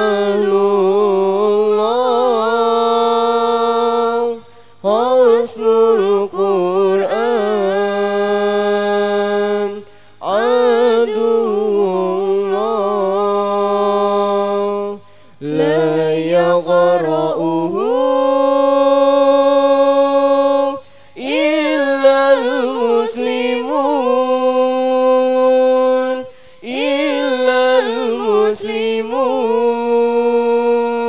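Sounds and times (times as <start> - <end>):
solo voice chanting: 0.0 - 31.0.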